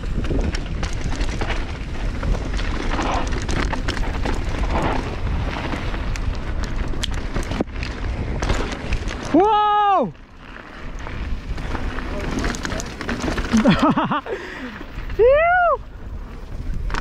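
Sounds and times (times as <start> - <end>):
bike rattling clicks: 0.0 - 15.3, 16.2 - 17.0
bike tyre noise: 0.0 - 17.0
wind rumble on microphone: 0.0 - 17.0.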